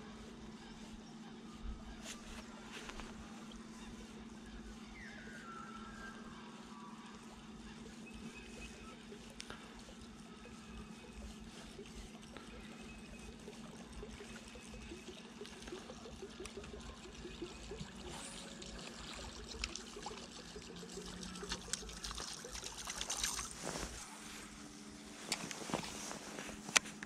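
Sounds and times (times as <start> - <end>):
water trickling and lapping: 0.2 - 27.0.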